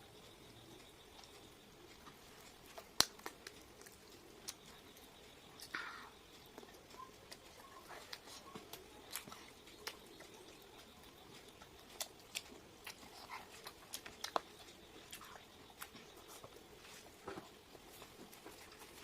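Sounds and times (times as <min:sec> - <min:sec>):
chewing and eating sounds: 0:00.0 - 0:19.0.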